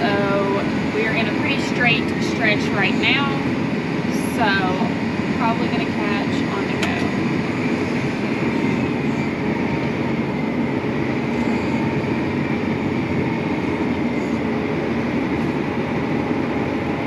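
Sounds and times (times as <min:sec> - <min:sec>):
faint whine: 0:00.0 - 0:17.0
tractor engine droning: 0:00.0 - 0:17.0.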